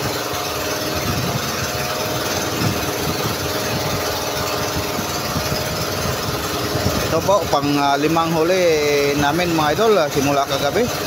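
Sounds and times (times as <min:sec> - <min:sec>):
choppy sea water: 0:00.0 - 0:09.3
boat engine throbbing: 0:00.0 - 0:11.0.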